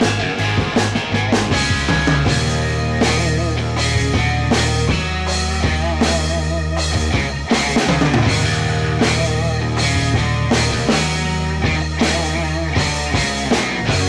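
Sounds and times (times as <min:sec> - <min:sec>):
drum kit beat: 0:00.0 - 0:14.0
rock music: 0:00.0 - 0:14.0.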